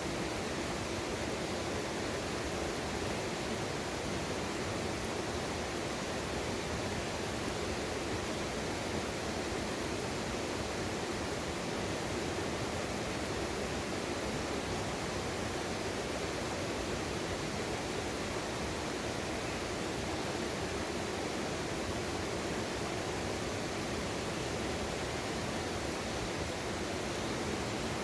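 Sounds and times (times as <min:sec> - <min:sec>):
stream water rushing: 0:00.0 - 0:28.0.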